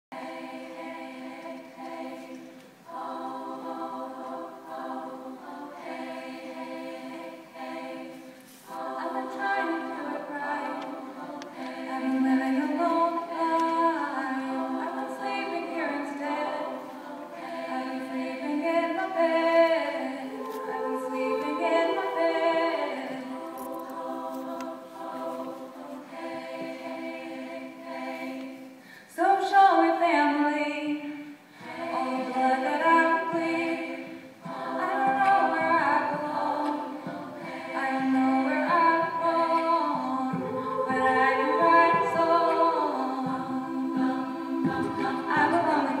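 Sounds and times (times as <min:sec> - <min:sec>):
women singing a cappella chords: 0:00.0 - 0:46.0.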